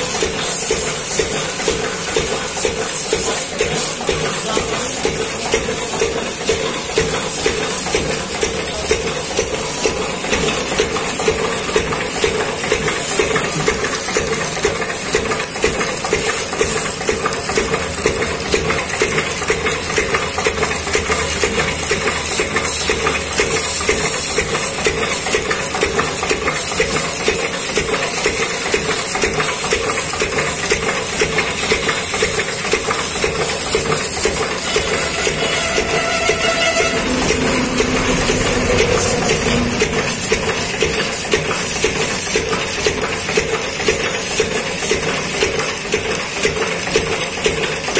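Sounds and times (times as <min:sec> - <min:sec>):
diesel engine running: 0:00.0 - 0:45.2.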